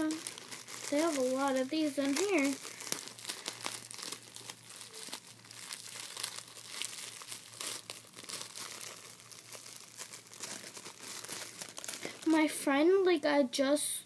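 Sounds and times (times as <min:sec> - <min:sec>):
plastic wrapping crinkling: 0:00.0 - 0:12.8.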